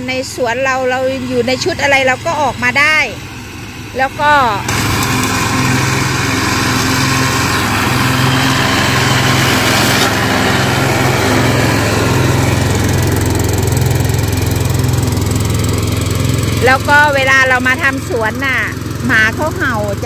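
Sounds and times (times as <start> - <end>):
ride-on lawn mower engine drone: 0.0 - 20.0.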